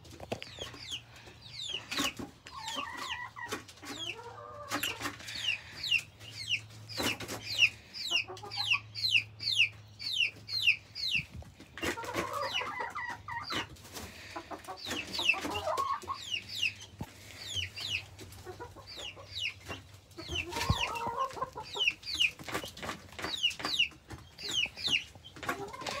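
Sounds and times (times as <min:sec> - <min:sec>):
chicks peeping: 0:00.0 - 0:26.0
hens clucking: 0:00.0 - 0:26.0.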